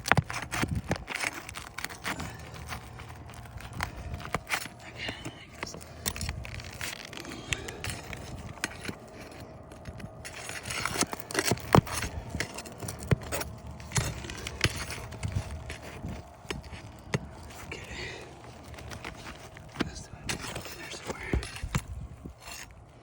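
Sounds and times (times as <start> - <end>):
pry bar scraping shingles: 0.0 - 23.0.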